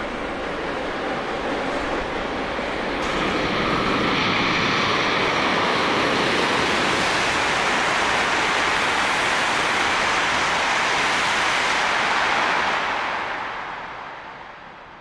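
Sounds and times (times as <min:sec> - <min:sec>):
high-speed train rushing past: 0:00.0 - 0:15.0.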